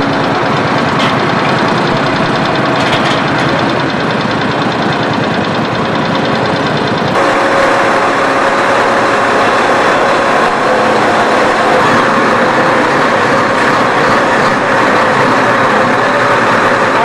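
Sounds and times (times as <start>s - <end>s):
forklift engine running: 0.0s - 17.0s
steady whine: 0.0s - 17.0s.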